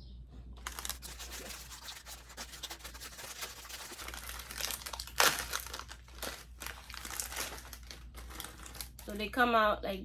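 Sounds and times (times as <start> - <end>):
plastic packaging ripping: 0.6 - 9.3
plastic packaging crinkling: 0.6 - 9.4.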